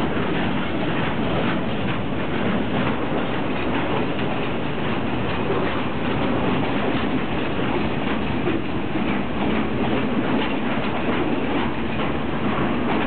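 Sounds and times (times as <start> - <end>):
steel wheels rumbling on rail: 0.0 - 13.0
wheel clicks over rail joints: 0.0 - 13.0.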